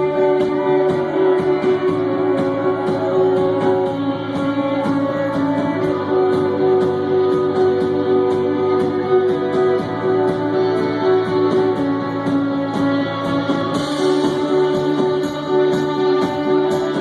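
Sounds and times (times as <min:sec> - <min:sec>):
guitars ringing sustained chords: 0:00.0 - 0:17.0
high ticking beat: 0:00.0 - 0:17.0
rock band playing live: 0:00.0 - 0:17.0.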